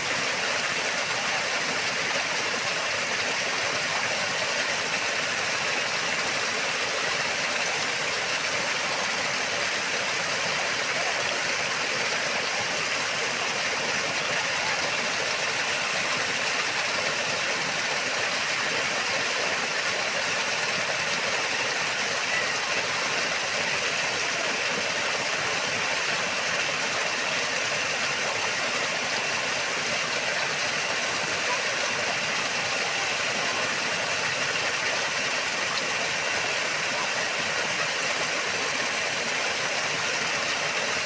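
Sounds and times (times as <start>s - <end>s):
waterfall rushing: 0.8s - 41.0s.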